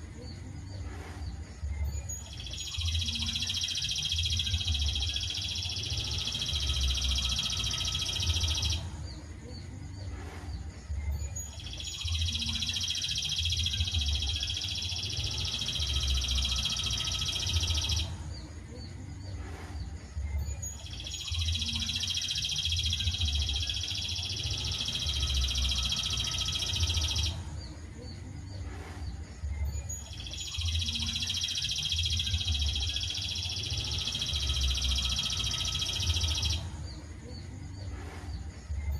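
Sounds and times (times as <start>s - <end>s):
songbird high continuous trill: 0.0s - 38.9s.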